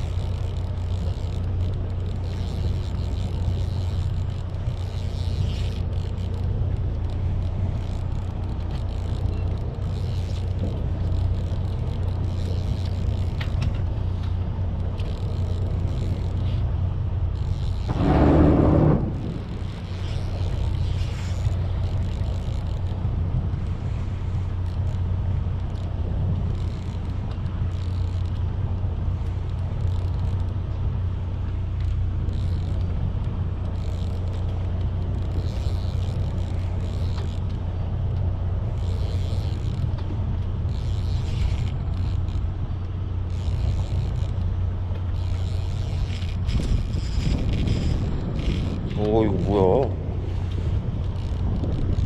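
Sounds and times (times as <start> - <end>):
boat engine humming: 0.0 - 52.0
wind and water hiss: 0.0 - 52.0.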